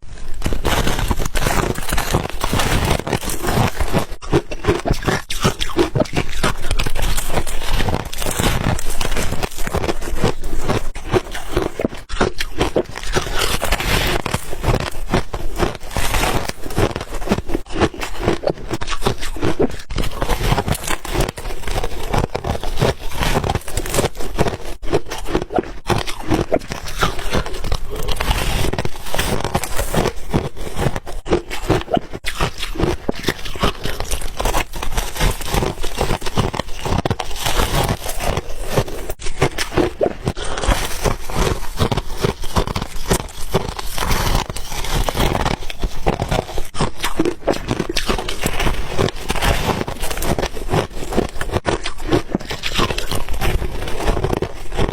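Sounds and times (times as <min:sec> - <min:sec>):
chewing ice crunches: 0:00.0 - 0:54.9.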